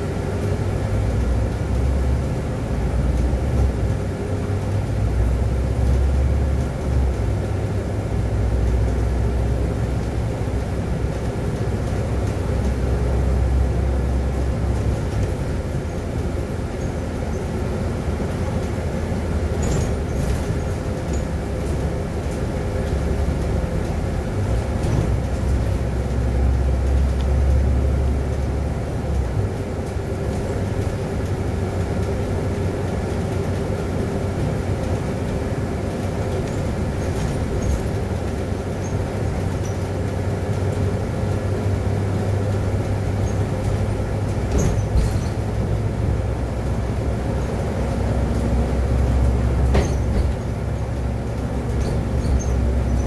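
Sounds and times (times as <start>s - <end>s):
bus engine and road rumble: 0.0s - 53.0s.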